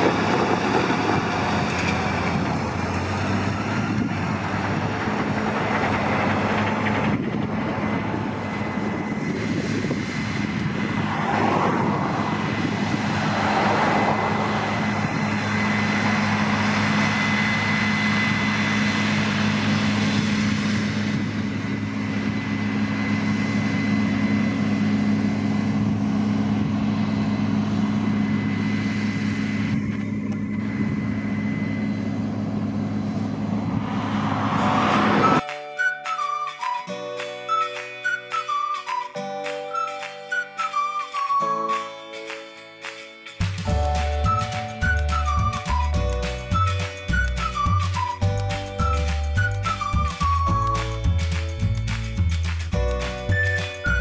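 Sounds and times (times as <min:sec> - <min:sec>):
diesel engines droning under load: 0:00.0 - 0:54.0
thin high whine: 0:07.1 - 0:54.0.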